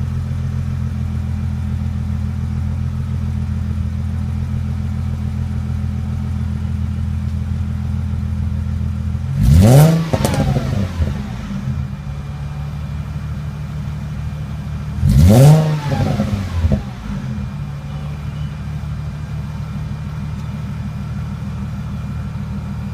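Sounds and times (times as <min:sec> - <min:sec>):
car exhaust idling and revving: 0:00.0 - 0:22.9.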